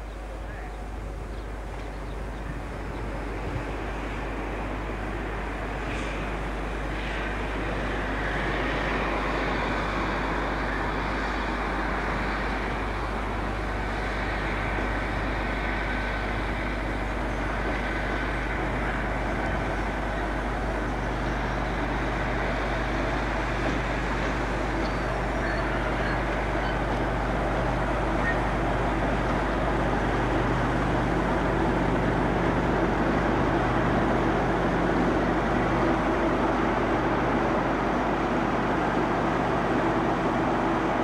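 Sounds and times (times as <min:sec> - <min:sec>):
diesel locomotive engine running: 0:00.0 - 0:41.0.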